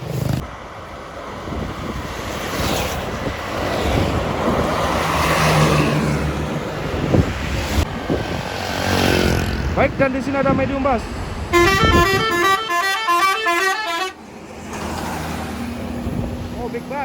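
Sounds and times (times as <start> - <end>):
bus passing by: 0.0 - 17.0.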